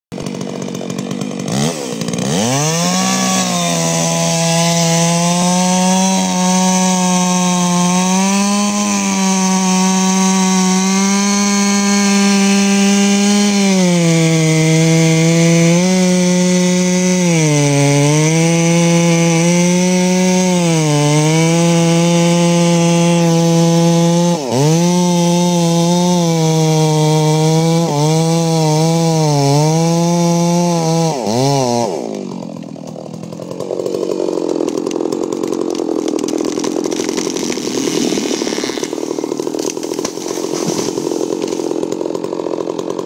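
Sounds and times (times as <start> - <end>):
chainsaw cutting through wood: 0.1 - 43.0.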